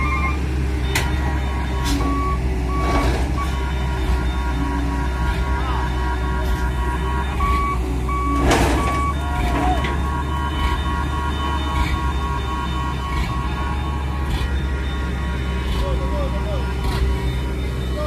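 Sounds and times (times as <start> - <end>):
diesel engine running: 0.0 - 18.0
reversing alarm beeping: 0.0 - 18.0.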